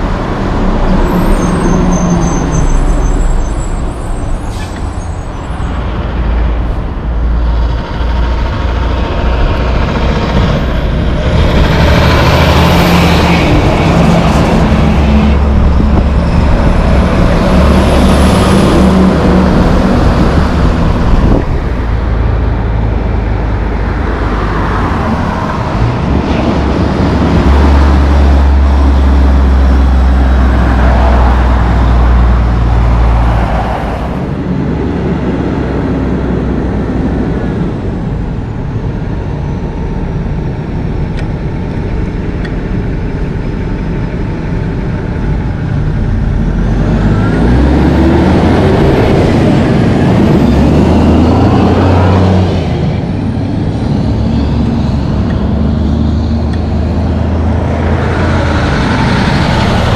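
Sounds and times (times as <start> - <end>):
diesel trucks passing: 0.0 - 59.9.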